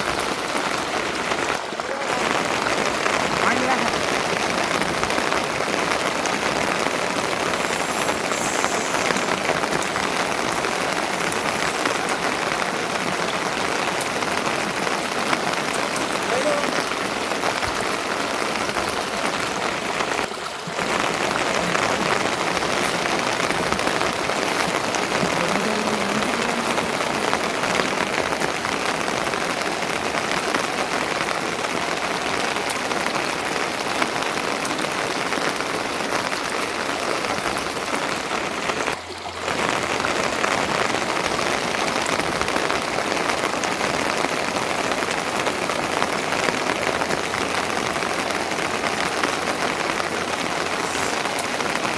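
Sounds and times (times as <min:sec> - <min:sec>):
heavy rain pattering: 0:00.0 - 0:51.9.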